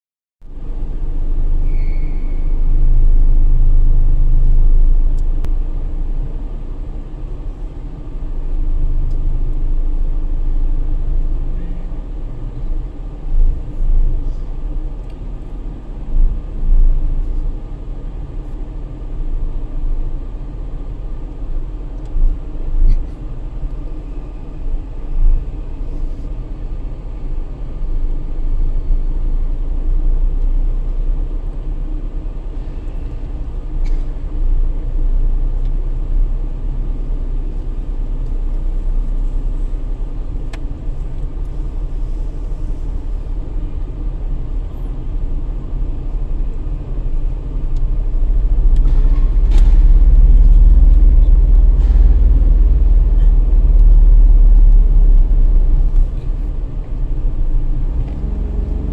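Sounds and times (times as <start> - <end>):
car engine and tyre rumble: 0.4 - 58.9.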